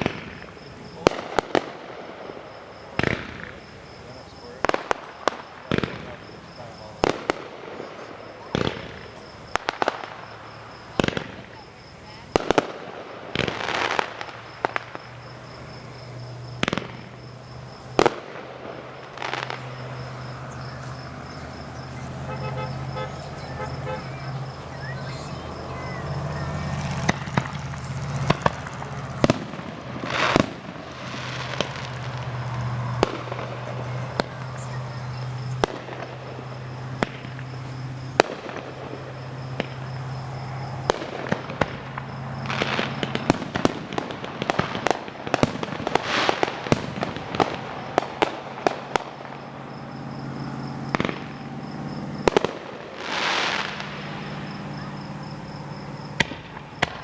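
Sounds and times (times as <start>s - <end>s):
fireworks bangs and pops: 0.0s - 57.0s
fireworks crackling: 0.0s - 57.0s
fireworks hissing rushes: 0.0s - 57.0s.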